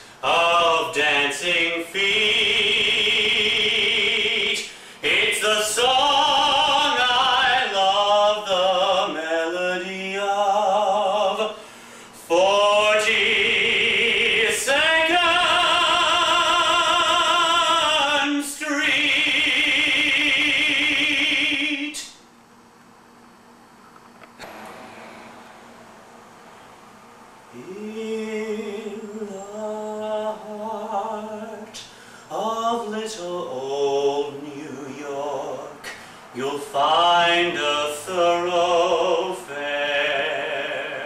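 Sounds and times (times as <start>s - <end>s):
operatic singing with vibrato: 0.0s - 22.1s, 27.4s - 41.0s.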